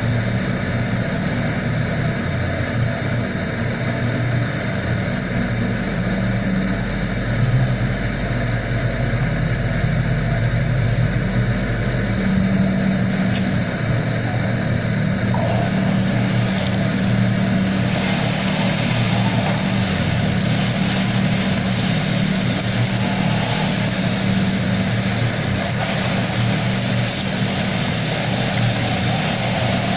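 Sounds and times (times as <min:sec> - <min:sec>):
low motor hum: 0:00.0 - 0:29.9
constant hiss: 0:04.7 - 0:29.9.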